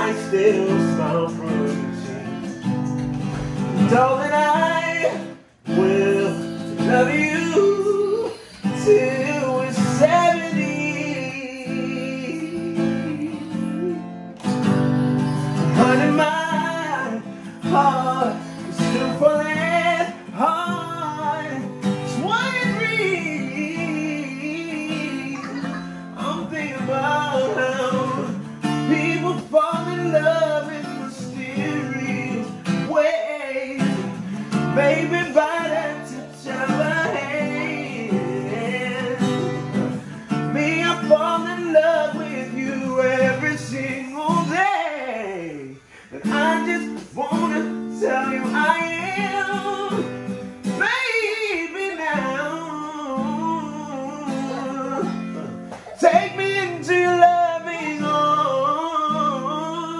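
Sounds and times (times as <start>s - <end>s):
man singing: 0.0s - 59.9s
strummed acoustic guitar: 0.0s - 59.9s.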